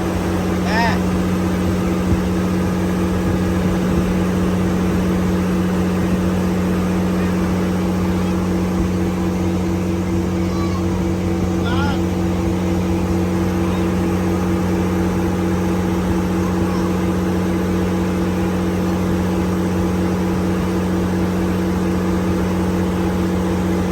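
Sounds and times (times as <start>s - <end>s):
boat engine droning: 0.0s - 23.9s.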